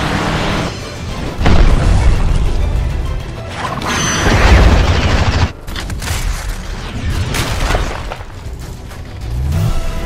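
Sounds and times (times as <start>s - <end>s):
dramatic music: 0.0s - 10.0s.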